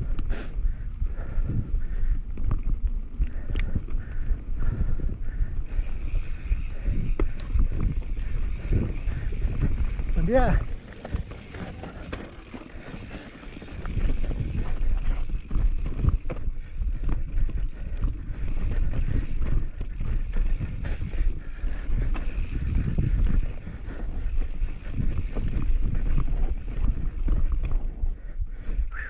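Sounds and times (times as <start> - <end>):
bike knocking and rattling: 0.0 - 29.0
wind on microphone: 0.0 - 29.0.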